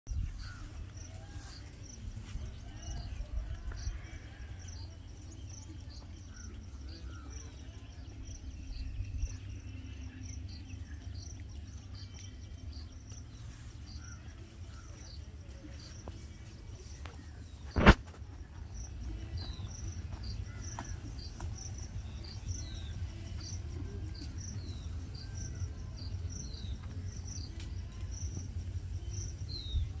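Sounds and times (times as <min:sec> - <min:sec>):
insects chirping: 0:00.2 - 0:30.0.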